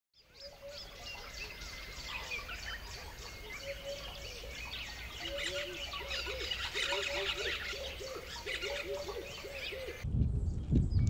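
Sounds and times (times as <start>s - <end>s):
birds chirping and singing: 0.2s - 11.0s.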